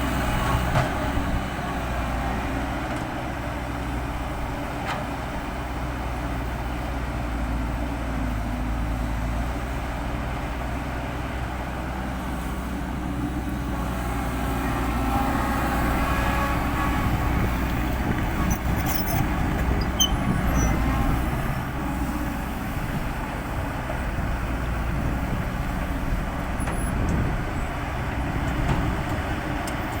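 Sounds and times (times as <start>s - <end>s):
diesel machinery running: 0.0s - 30.0s.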